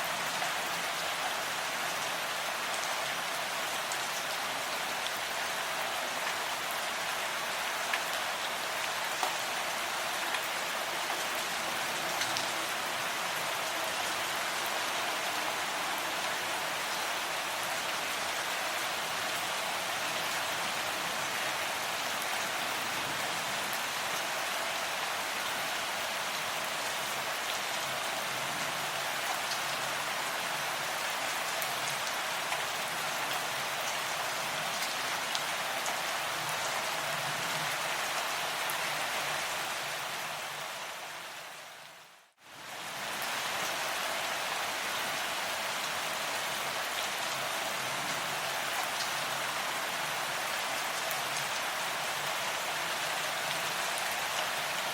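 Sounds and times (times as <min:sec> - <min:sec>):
rain pattering on surfaces: 0:00.0 - 0:40.7, 0:42.5 - 0:54.9.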